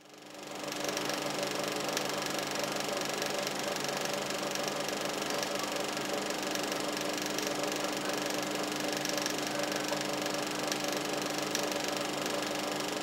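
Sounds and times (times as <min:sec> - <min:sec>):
film projector whirring: 0:00.0 - 0:13.0.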